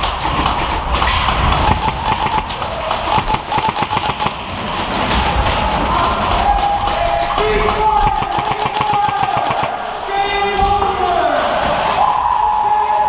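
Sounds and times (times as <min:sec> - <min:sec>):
airsoft guns firing: 0:00.0 - 0:10.6.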